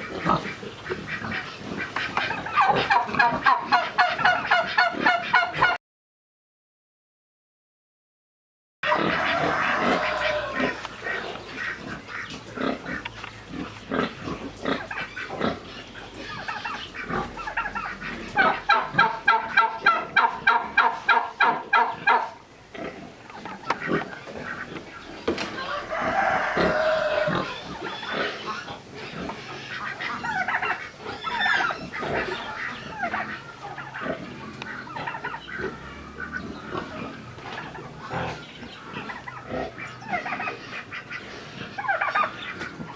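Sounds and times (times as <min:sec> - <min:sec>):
chickens clucking: 0:00.0 - 0:05.8, 0:08.8 - 0:42.9
rapid repeated chicken calls: 0:00.0 - 0:05.8, 0:08.8 - 0:22.5, 0:23.2 - 0:42.9.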